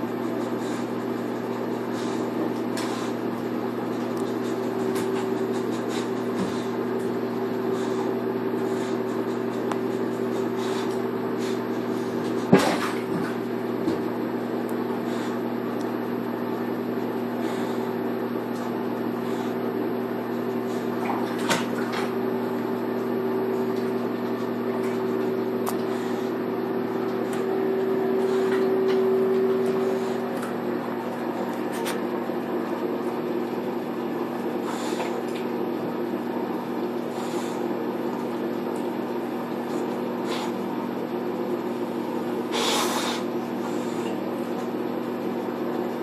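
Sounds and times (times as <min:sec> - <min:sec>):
electric motor hum: 0:02.2 - 0:39.9.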